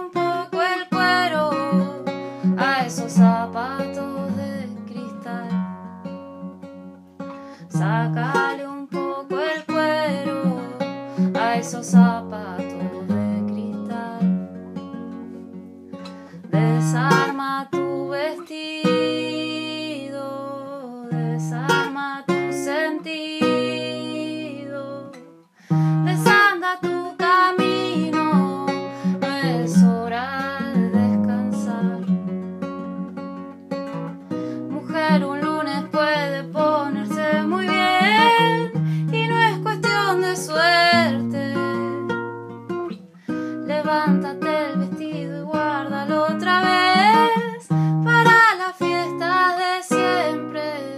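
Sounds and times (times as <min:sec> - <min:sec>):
acoustic guitar music: 0:00.0 - 0:50.9.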